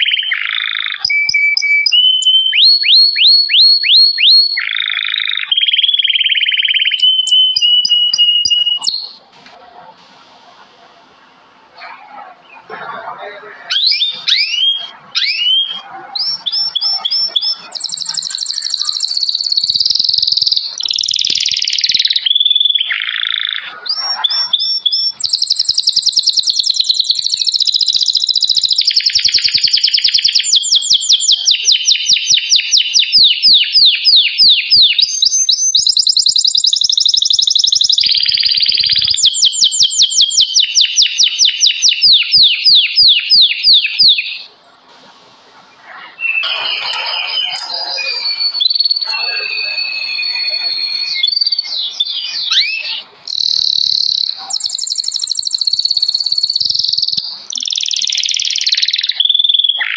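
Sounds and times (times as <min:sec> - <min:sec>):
songbird chorus: 0:00.0 - 0:59.9
fast sweeping bird notes: 0:11.8 - 0:59.9.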